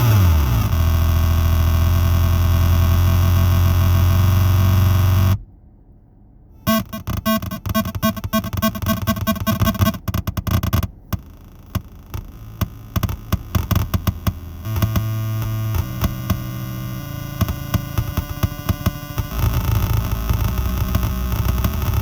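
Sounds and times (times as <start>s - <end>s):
glitchy synth clicks: 0.0s - 5.4s, 6.6s - 22.0s
synth buzzing tones: 0.0s - 5.4s, 6.6s - 22.0s.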